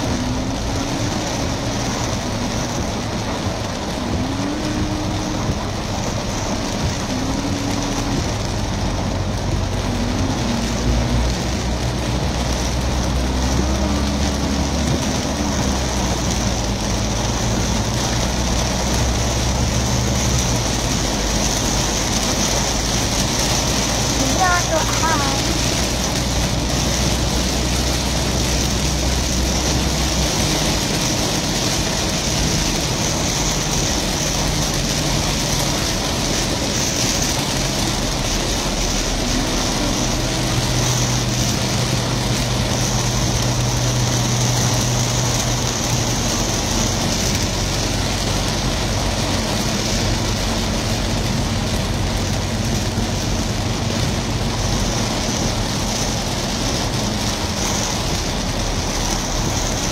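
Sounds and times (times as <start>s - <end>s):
car engine hum: 0.0s - 59.9s
heavy rain on car roof: 0.0s - 59.9s.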